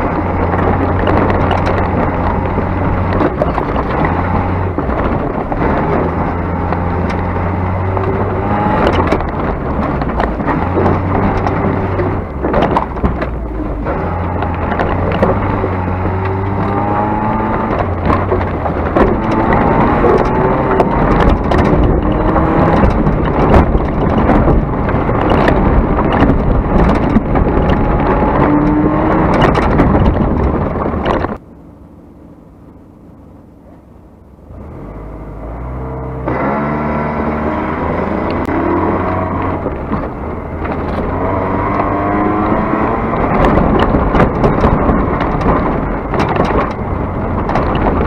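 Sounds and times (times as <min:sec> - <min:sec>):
car engine revving: 0:00.0 - 0:31.4, 0:33.7 - 0:48.0
sharp clicks and knocks: 0:00.0 - 0:31.4, 0:38.1 - 0:48.0
low hum: 0:00.0 - 0:48.0.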